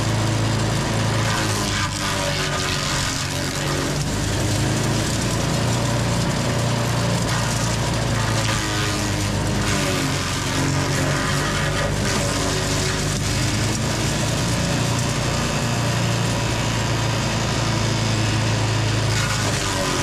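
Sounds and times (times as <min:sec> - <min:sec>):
chipper engine running: 0:00.0 - 0:20.0.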